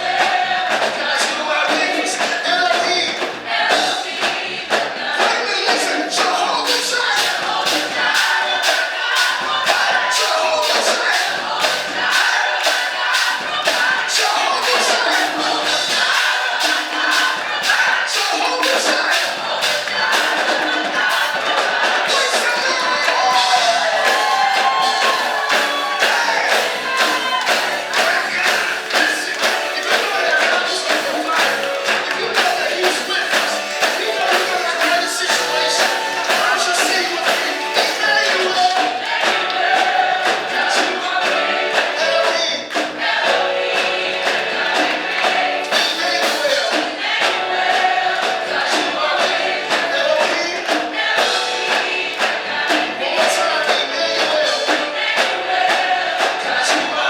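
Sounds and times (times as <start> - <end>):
band with driving beat: 0.0 - 57.0
choir singing: 0.0 - 57.0.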